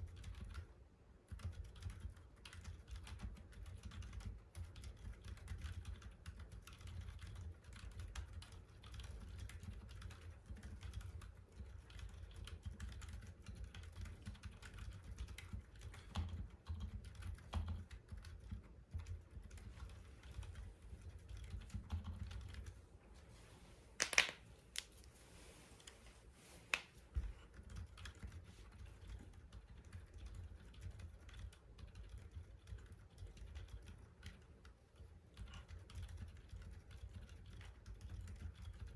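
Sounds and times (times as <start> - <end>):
typing on muted keyboard: 0.0 - 22.8, 26.8 - 38.9.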